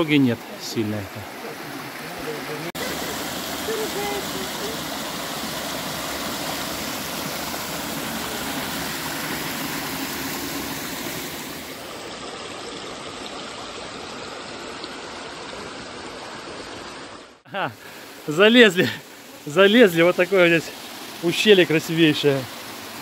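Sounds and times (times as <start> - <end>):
small waterfall splashing: 0.0 - 23.0.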